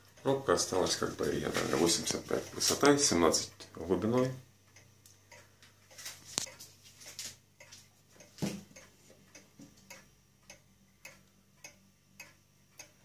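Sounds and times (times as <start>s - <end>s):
pendulum clock ticking: 0.0s - 13.0s.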